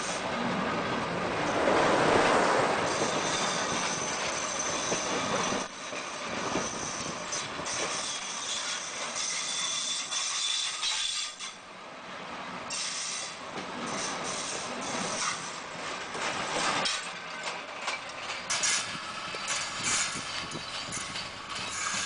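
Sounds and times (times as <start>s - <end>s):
train wheels clattering on track: 0.0s - 11.6s, 12.7s - 22.0s.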